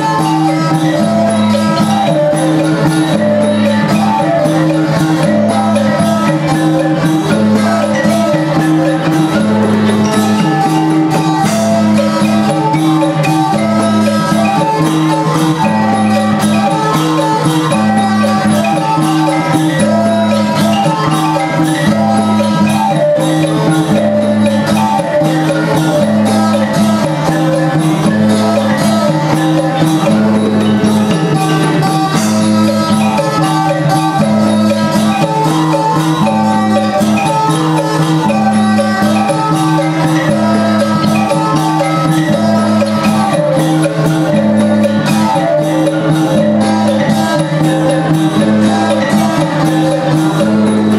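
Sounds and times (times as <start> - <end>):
folk band music: 0.0 - 50.9.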